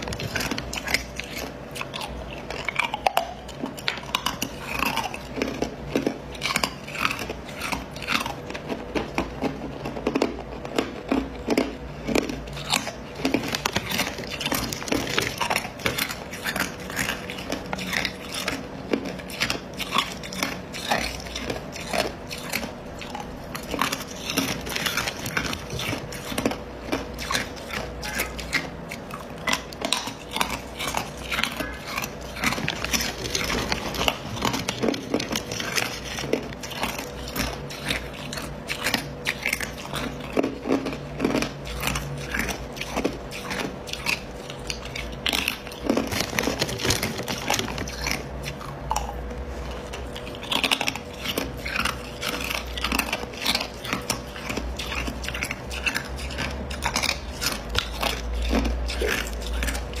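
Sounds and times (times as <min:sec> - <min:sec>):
ice being chewed: 0:00.0 - 1:00.0.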